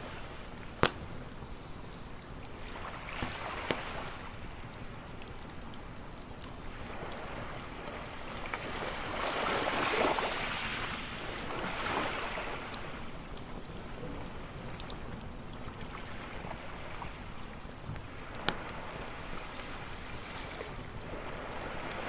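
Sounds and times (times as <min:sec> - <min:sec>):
campfire popping: 0:00.0 - 0:22.0
ocean waves washing ashore: 0:00.0 - 0:22.0.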